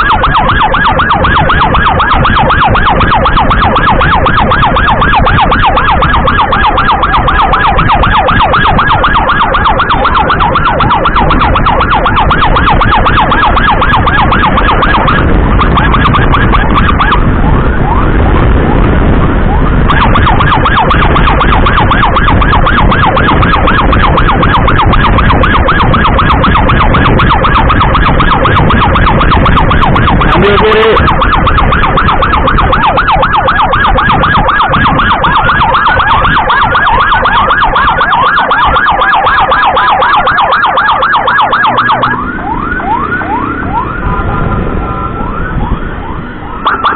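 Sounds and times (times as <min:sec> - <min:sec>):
emergency siren rapid warble: 0:00.0 - 0:46.9
motorcycle engine rumble: 0:00.0 - 0:46.9.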